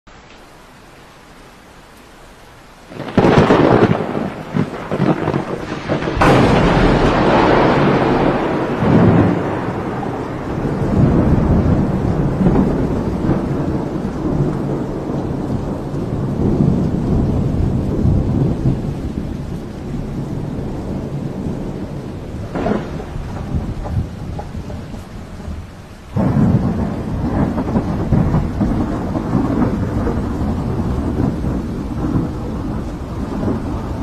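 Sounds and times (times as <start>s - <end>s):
rain: 0.1s - 34.0s
rolling thunder: 2.9s - 34.0s
thunderclap: 2.9s - 34.0s.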